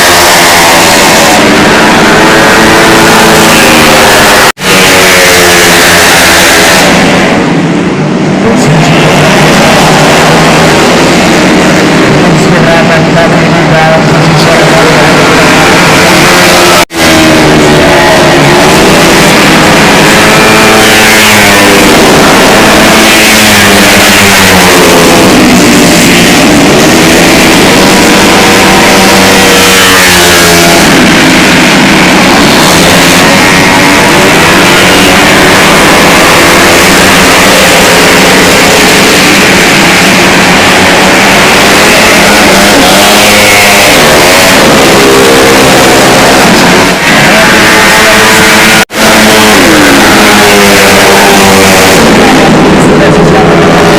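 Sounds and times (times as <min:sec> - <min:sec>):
scooter engine revving: 0:00.0 - 0:53.9.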